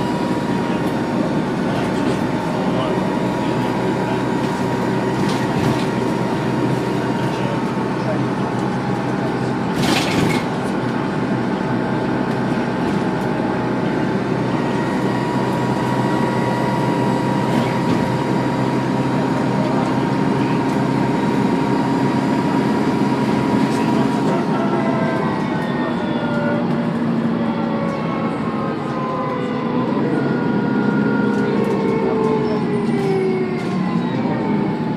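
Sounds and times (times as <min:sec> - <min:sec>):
bus engine rumbling: 0:00.0 - 0:34.9
high turbo whine: 0:00.0 - 0:34.9.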